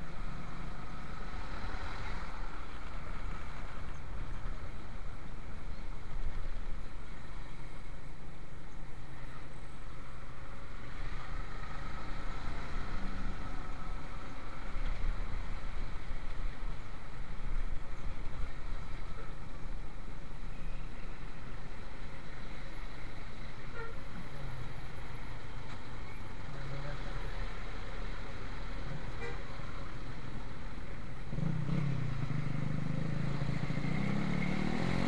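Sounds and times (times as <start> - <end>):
motorcycle engine rumble: 0.0 - 35.0
road noise: 0.0 - 35.0.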